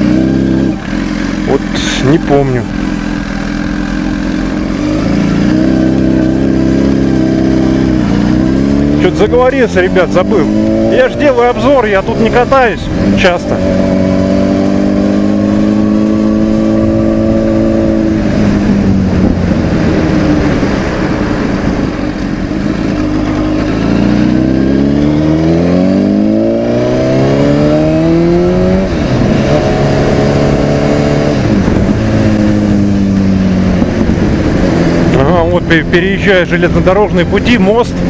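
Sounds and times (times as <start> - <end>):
motorcycle engine while riding: 0.0 - 38.0.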